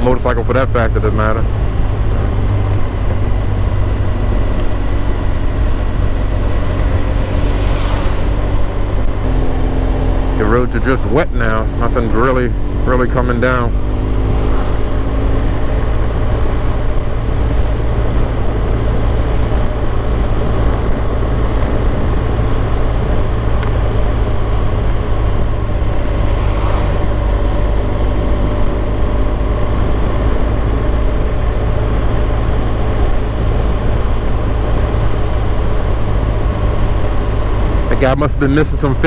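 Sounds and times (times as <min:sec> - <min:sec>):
motorcycle engine rumbling: 0:00.0 - 0:39.0.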